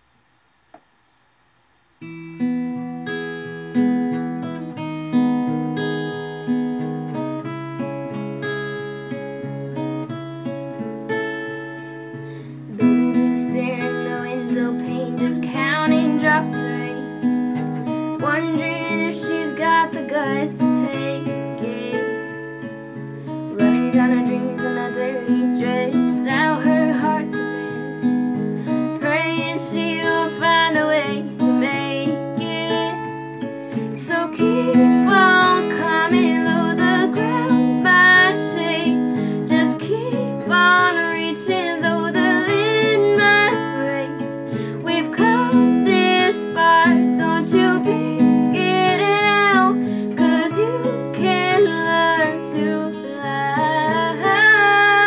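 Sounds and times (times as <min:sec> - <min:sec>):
acoustic guitar picked chords: 0:01.9 - 0:55.0.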